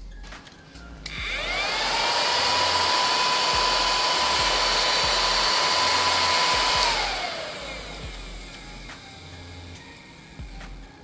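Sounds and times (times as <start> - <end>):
mini vacuum cleaner motor whine: 1.1 - 11.0.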